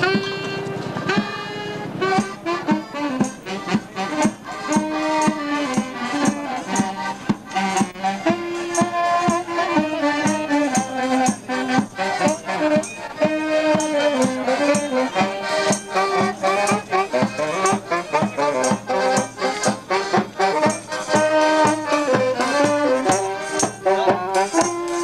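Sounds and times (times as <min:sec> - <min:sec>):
accordion: 0:00.0 - 0:25.0
saxophone: 0:00.0 - 0:25.0.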